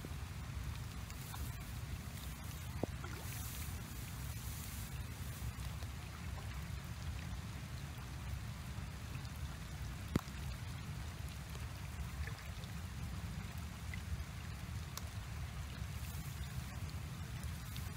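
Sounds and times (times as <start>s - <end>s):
faint hiss: 0.0s - 17.9s
low outdoor rumble: 0.0s - 17.9s.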